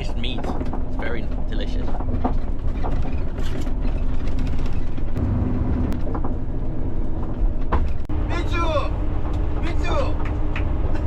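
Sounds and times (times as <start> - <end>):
bus engine hum: 0.0 - 11.0
low road rumble: 0.0 - 11.0.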